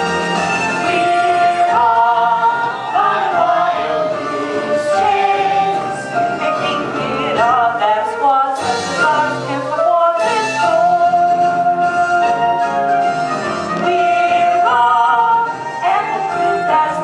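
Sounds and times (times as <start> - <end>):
voices singing together: 0.6 - 11.3, 13.8 - 17.0.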